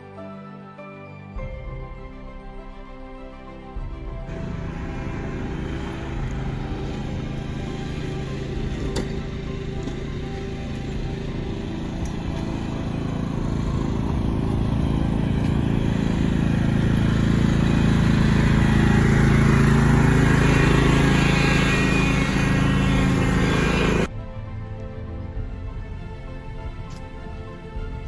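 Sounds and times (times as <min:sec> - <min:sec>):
engine running: 0:02.4 - 0:28.0.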